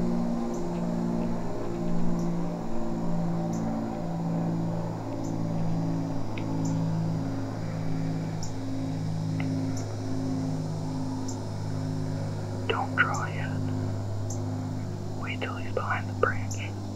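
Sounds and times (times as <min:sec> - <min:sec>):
held synth notes: 0:00.0 - 0:16.9
low drone: 0:00.0 - 0:16.9.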